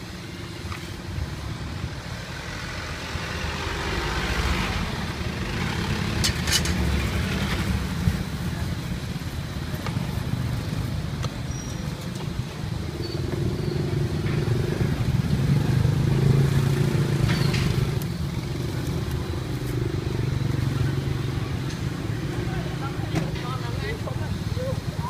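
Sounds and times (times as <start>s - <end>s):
street traffic: 0.0s - 25.0s.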